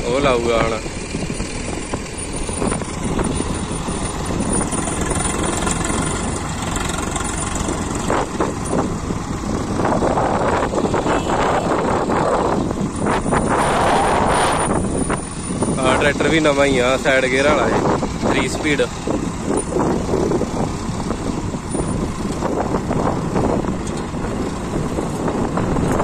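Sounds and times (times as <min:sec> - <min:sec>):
diesel tractor engines running: 0:00.0 - 0:26.0.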